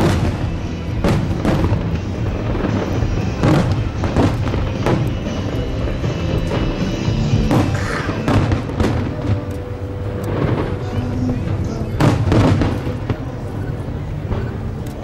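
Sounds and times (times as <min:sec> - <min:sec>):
fireworks bangs: 0:00.0 - 0:15.0
music: 0:00.0 - 0:15.0.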